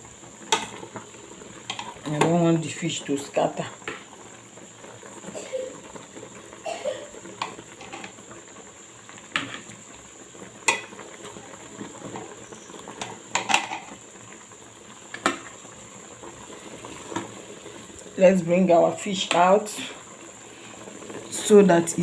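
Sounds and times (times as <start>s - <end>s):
soup bubbling: 0.0s - 22.0s.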